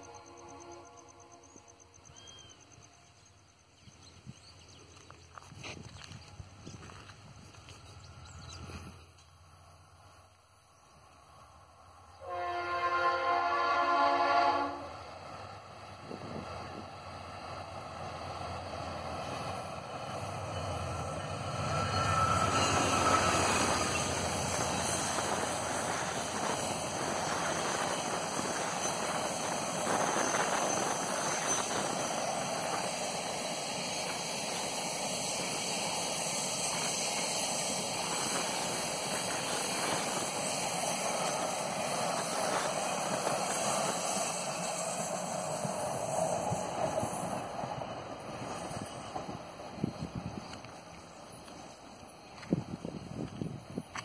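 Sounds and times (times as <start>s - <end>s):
diesel locomotive engine: 0.0s - 54.0s
train wheels running over rails: 4.2s - 10.3s, 14.9s - 54.0s.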